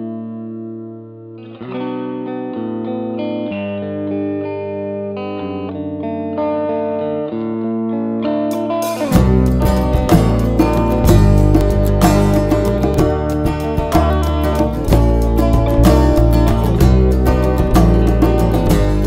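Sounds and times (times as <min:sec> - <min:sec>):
guitar instrumental music: 0:00.0 - 0:19.0.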